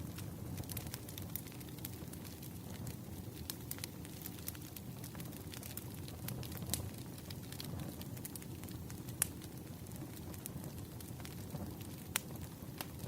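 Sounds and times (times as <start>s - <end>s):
fire crackles and pops: 0.0s - 13.0s
firewood burning rumble: 0.0s - 13.0s.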